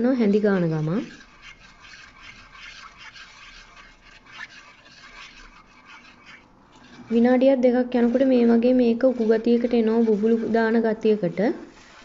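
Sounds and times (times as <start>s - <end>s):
wooden spatula scraping a wok: 0.0s - 12.0s.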